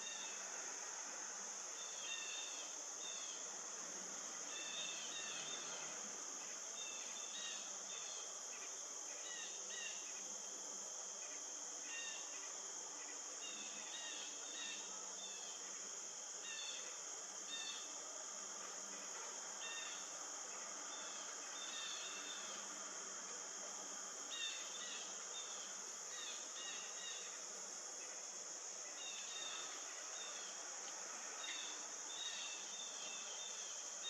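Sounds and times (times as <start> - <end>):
high-pitched insect trilling: 1.6 - 3.4, 4.4 - 10.3, 11.2 - 18.0, 18.9 - 23.0, 24.2 - 34.0.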